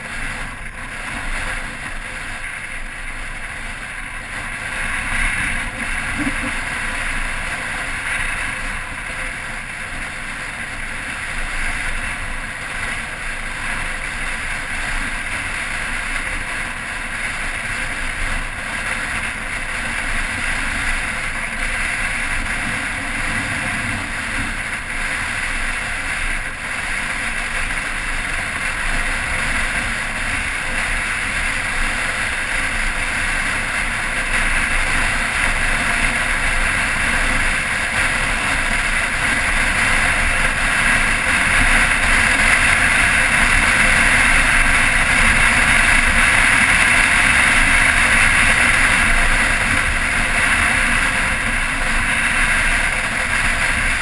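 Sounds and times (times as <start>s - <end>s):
motorcycle engine: 0.0s - 54.0s
wind noise: 0.0s - 54.0s.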